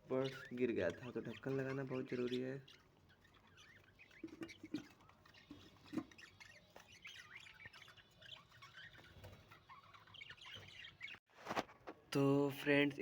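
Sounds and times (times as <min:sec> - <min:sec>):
budgerigars chattering: 0:00.0 - 0:11.2.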